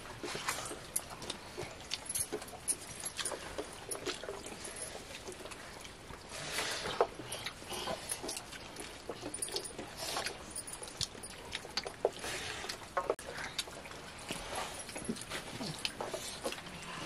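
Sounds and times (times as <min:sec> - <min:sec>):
boy chewing wetly: 0:00.0 - 0:17.0.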